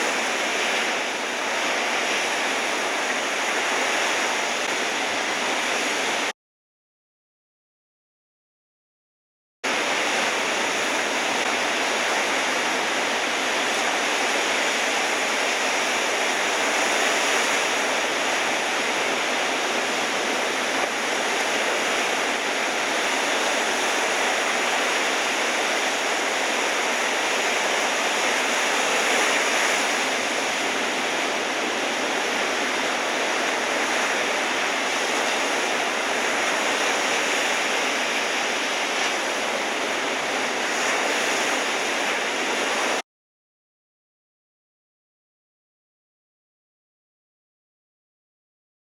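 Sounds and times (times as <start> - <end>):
ocean surf roar: 0.0 - 6.3, 9.7 - 43.0.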